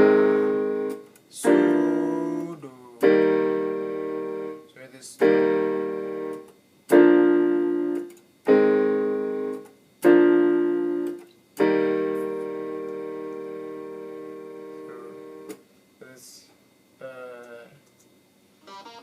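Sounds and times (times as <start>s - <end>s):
piano chords: 0.0s - 4.6s, 5.2s - 15.6s, 18.6s - 19.0s.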